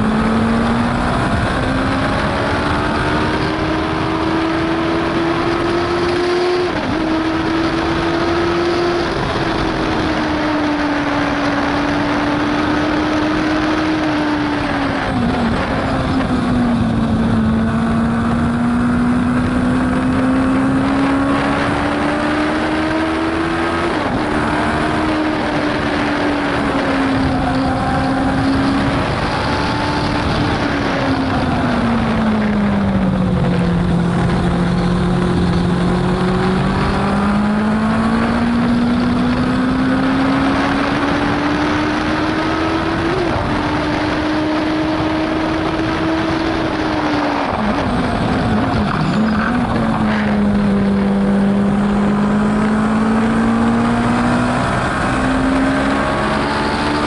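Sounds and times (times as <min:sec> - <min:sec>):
racing engine accelerating: 0:00.0 - 0:57.0
wind and road noise: 0:00.0 - 0:57.0.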